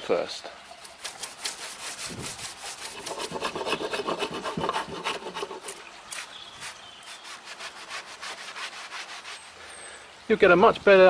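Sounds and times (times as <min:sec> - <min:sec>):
brush scrubbing rough wood: 0:00.7 - 0:09.7.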